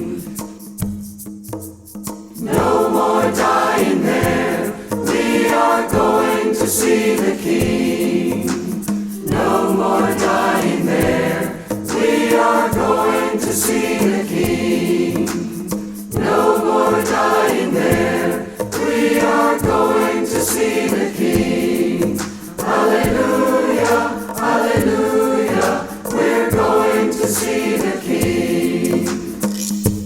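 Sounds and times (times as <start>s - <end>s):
choir singing gospel: 0.0s - 0.8s, 2.3s - 29.6s
hand percussion beat: 0.0s - 30.0s.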